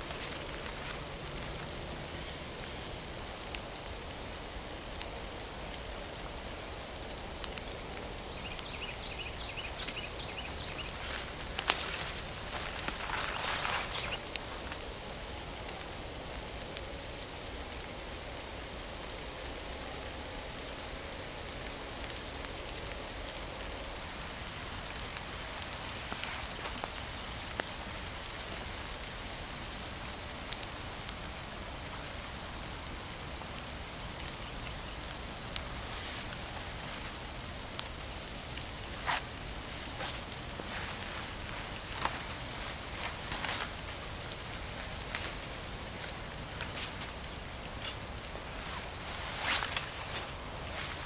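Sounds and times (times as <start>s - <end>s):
steady rain hiss: 0.0s - 51.0s.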